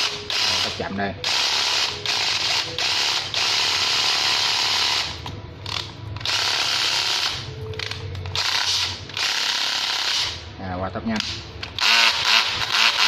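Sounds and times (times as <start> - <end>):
cordless drill clutch ratcheting: 0.0 - 10.4, 11.2 - 13.0.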